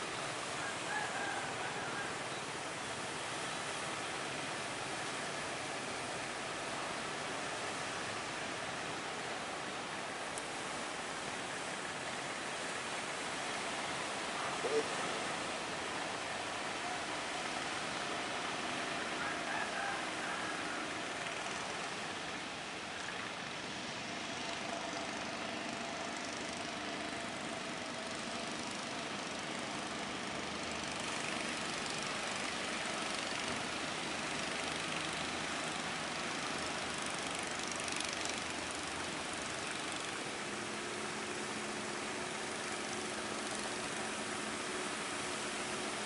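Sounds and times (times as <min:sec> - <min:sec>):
faint boat engines humming: 0:00.0 - 0:46.0.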